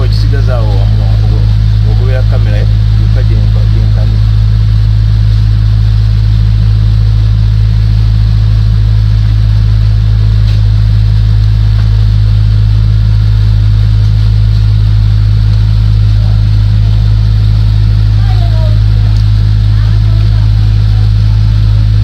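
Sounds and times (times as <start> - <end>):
loud steady low hum: 0.0 - 22.0.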